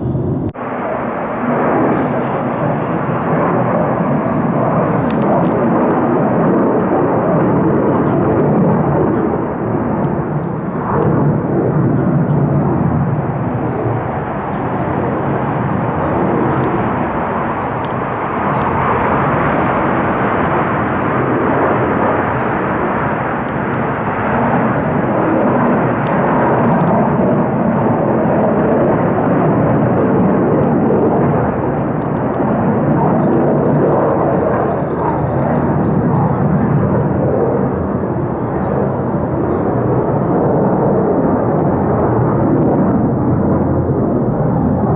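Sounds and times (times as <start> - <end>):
fighter jets taking off: 0.0 - 44.9.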